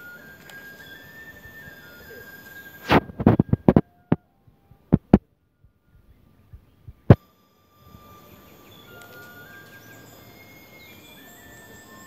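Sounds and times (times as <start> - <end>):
high-pitched tones: 0.0 - 6.1, 7.1 - 12.0
faint outdoor ambience: 0.0 - 12.0.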